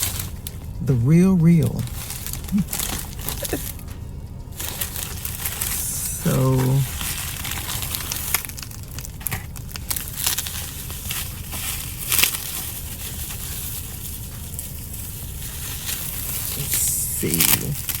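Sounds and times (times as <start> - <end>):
packaging crinkling: 0.0 - 0.8, 1.7 - 18.0.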